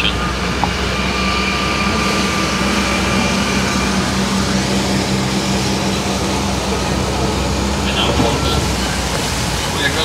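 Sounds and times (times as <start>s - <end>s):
engine humming: 0.0s - 10.0s
road noise on wet pavement: 0.0s - 10.0s.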